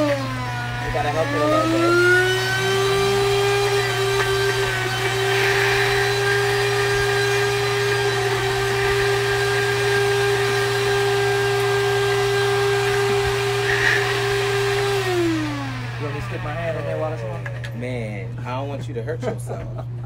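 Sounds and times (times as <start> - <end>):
blender motor running: 0.0 - 18.4.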